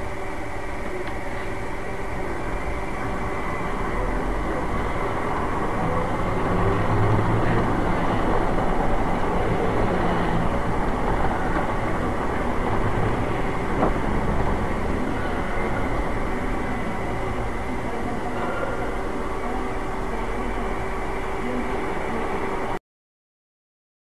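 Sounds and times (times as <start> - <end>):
moving vehicle rumble: 0.0 - 22.6.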